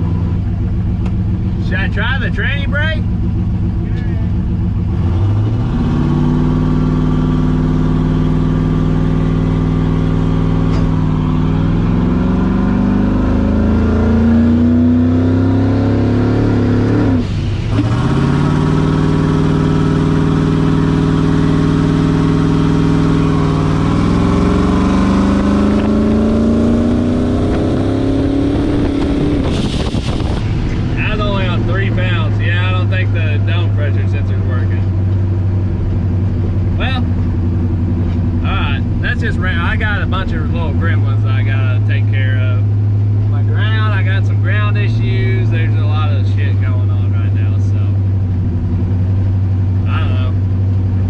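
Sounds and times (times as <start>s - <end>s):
car engine accelerating hard: 0.0s - 51.0s.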